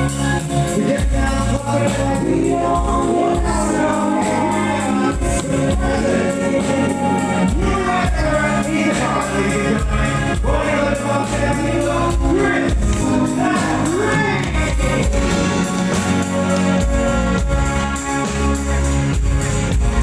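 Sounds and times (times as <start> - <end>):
song with singer and heavy bass: 0.0 - 20.0.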